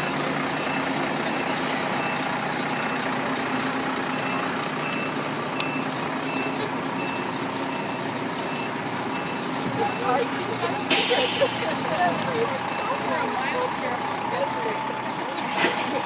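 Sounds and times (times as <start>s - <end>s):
truck engine running: 0.0s - 16.0s
truck reversing alarm beeping: 0.0s - 16.0s.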